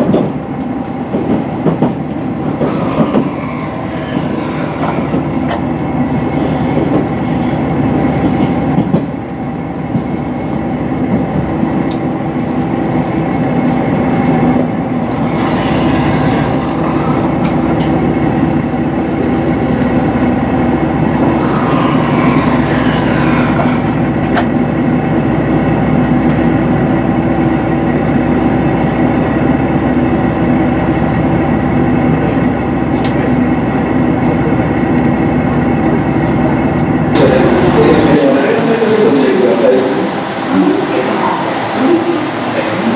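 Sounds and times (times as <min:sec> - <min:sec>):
train engine and wheels hum: 0:00.0 - 0:42.9.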